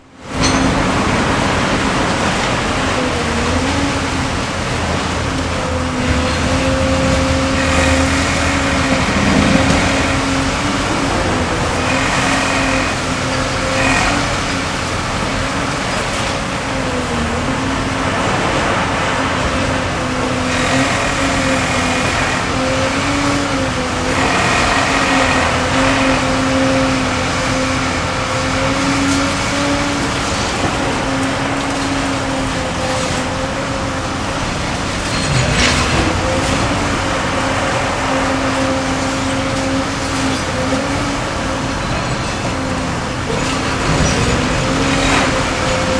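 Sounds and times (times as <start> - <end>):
excavator diesel engine running: 0.0 - 45.9
hydraulic whine: 0.0 - 45.9.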